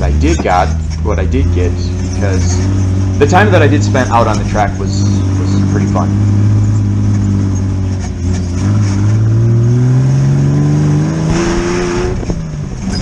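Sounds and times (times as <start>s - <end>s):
buggy engine accelerating: 0.0s - 13.0s.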